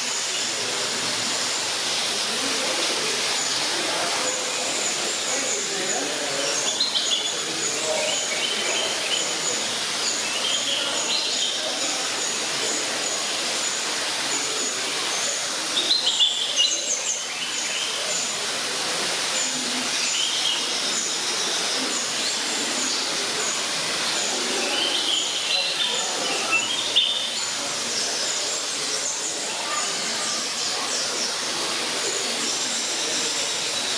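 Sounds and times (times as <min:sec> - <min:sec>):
faint murmur of voices: 0:00.0 - 0:33.9
steady background noise: 0:00.0 - 0:33.9
small birds chirping: 0:00.1 - 0:33.9.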